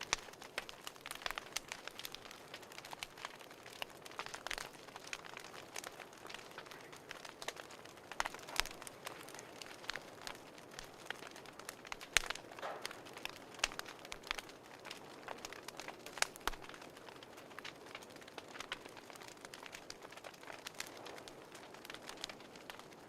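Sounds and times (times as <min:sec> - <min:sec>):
fireplace crackling: 0:00.0 - 0:23.0.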